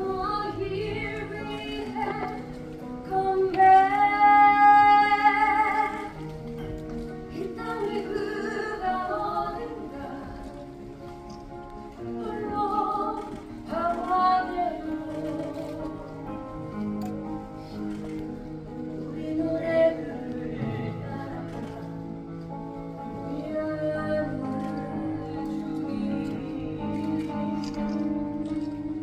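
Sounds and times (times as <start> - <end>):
woman singing: 0.0 - 6.3, 7.3 - 11.3, 11.9 - 16.3, 19.0 - 22.1, 23.1 - 29.0.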